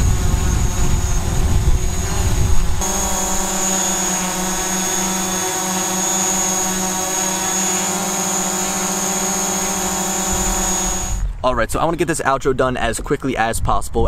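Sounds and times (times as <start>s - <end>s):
drone propeller hum: 0.0s - 11.4s
high motor whine: 0.0s - 11.4s.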